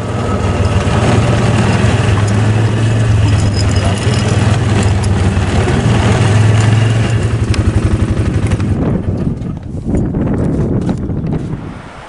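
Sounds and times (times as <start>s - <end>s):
off-road vehicle engine running: 0.0s - 11.4s
outdoor background noise: 0.0s - 12.0s.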